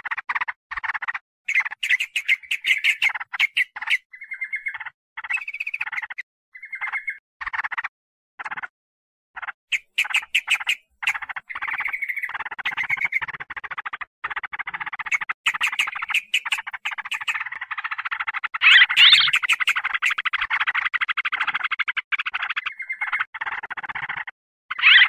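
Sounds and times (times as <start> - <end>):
bird chattering calls: 0.0 - 8.7, 9.4 - 25.0.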